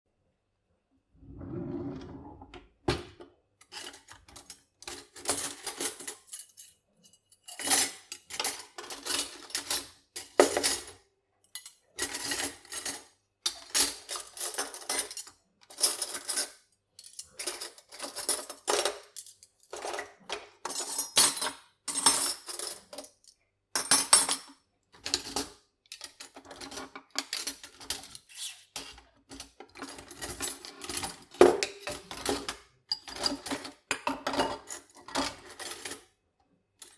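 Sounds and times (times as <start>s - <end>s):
metal cutlery clinking: 3.6s - 36.1s.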